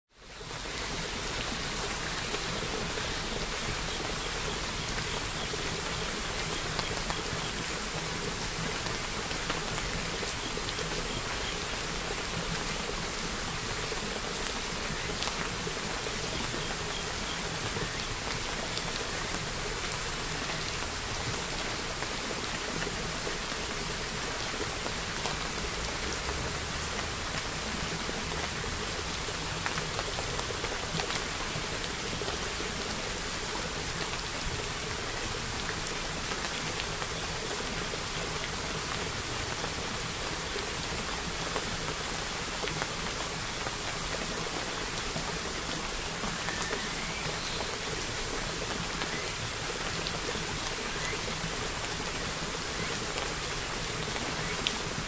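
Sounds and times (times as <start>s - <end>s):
rain-like hiss: 0.1s - 55.0s.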